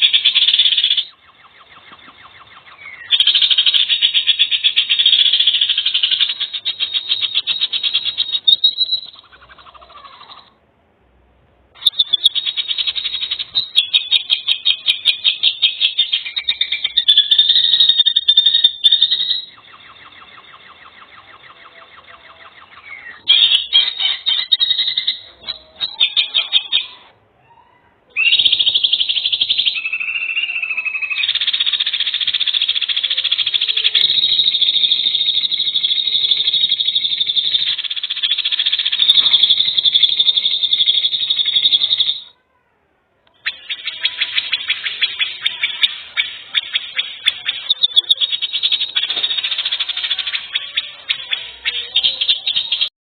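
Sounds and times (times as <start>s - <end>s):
high rapid bird trills: 0.0s - 10.6s, 11.7s - 42.4s, 43.3s - 52.9s.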